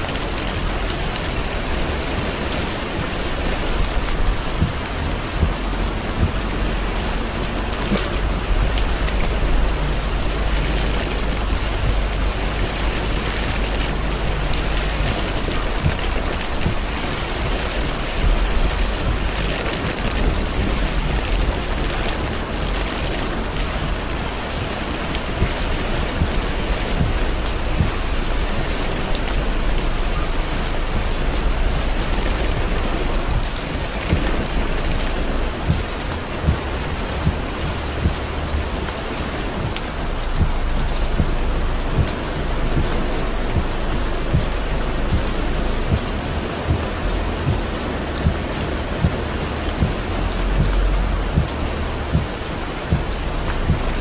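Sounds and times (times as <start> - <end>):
constant low rumble: 0.0 - 54.0
heavy rain on car roof: 0.0 - 54.0.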